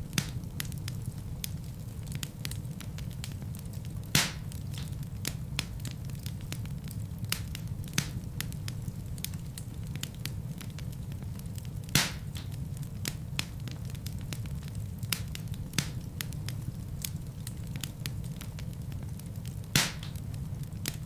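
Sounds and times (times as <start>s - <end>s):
flame rumble: 0.0s - 21.0s
loud fire pops: 0.0s - 21.0s
wood fire crackling: 0.0s - 21.0s.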